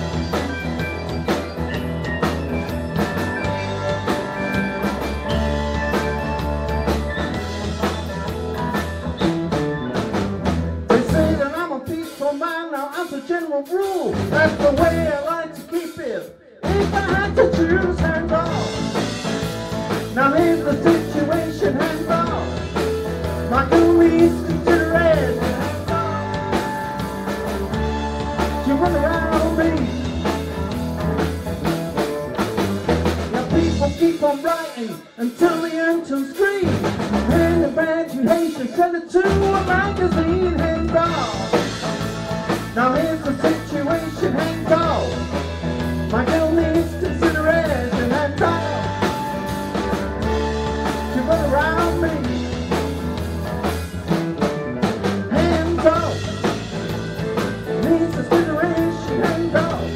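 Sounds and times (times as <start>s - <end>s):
electric guitar: 0.0s - 12.1s, 16.4s - 59.9s
drum kit: 0.0s - 59.9s
keyboards: 0.0s - 59.9s.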